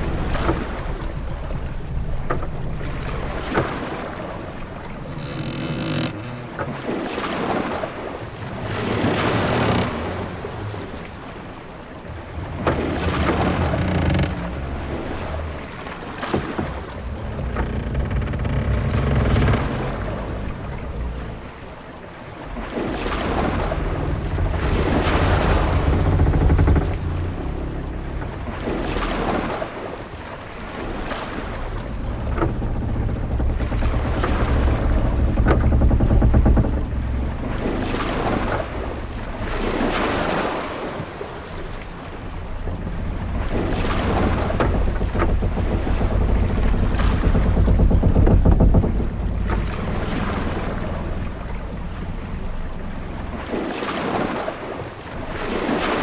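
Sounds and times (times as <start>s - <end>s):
low rumble of wind: 0.0s - 56.0s
waves washing against hull: 0.0s - 56.0s.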